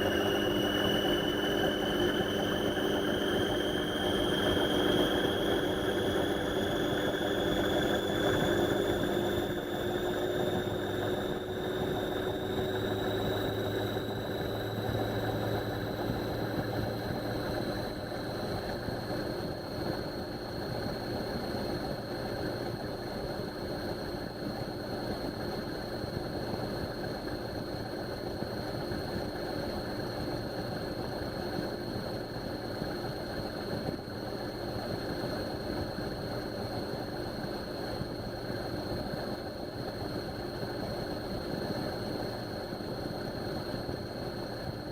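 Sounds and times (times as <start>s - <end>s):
washing machine motor whine: 0.0s - 44.9s.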